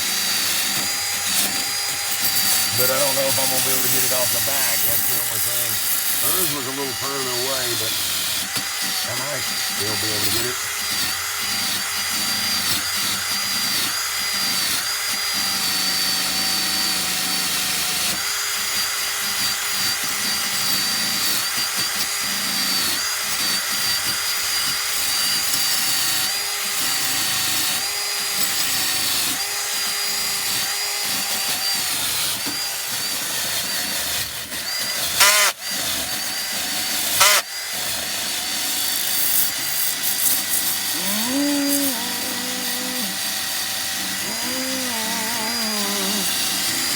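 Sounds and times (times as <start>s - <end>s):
power tool motor whine: 0.0s - 46.9s.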